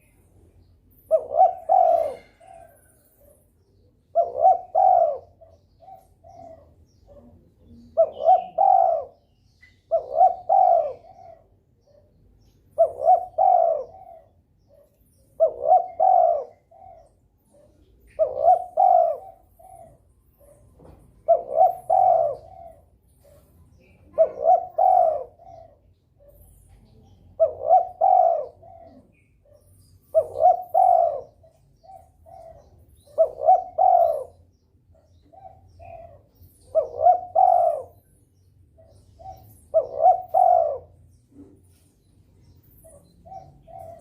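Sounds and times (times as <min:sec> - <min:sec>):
dove cooing: 0:00.0 - 0:44.0
faint high bird chirps: 0:00.0 - 0:44.0.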